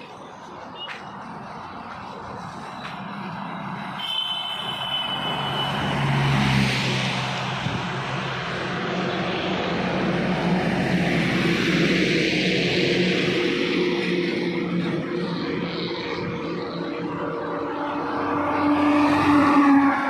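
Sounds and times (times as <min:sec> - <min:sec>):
heavy truck engine and tyres: 0:00.0 - 0:20.0.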